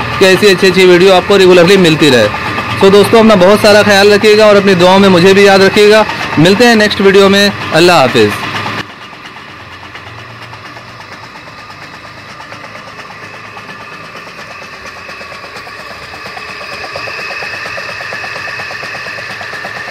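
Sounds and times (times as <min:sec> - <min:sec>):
water pump mechanical clatter: 0:00.0 - 0:19.9.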